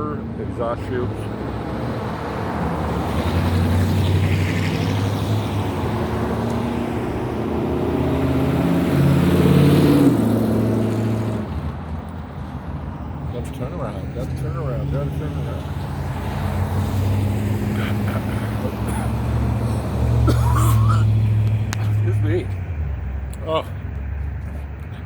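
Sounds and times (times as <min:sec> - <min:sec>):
loud car exhaust: 0:00.8 - 0:25.0.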